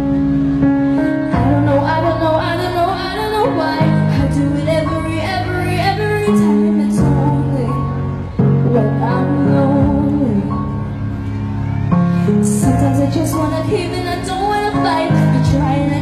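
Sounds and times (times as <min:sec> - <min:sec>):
young woman singing: 0:01.1 - 0:11.0, 0:12.2 - 0:16.0.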